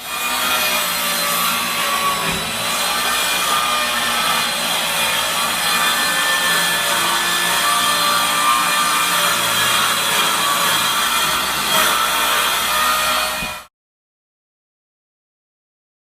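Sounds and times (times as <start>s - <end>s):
power saw cutting wood: 0.0s - 13.7s.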